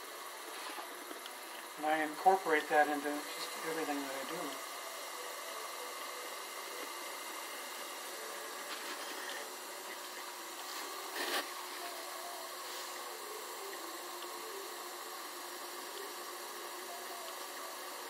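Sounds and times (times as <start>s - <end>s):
potter's wheel humming: 0.0s - 18.0s.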